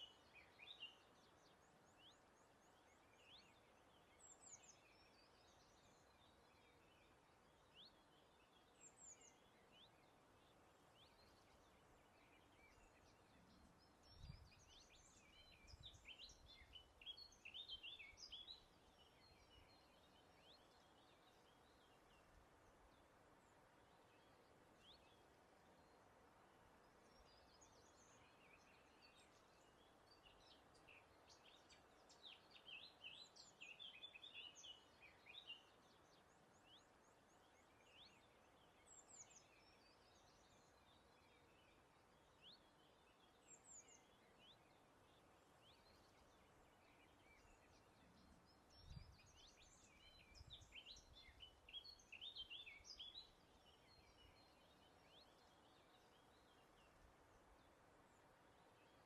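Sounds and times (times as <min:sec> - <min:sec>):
high chirping birdsong: 0:00.0 - 0:59.0
soft breeze hiss: 0:00.0 - 0:59.0.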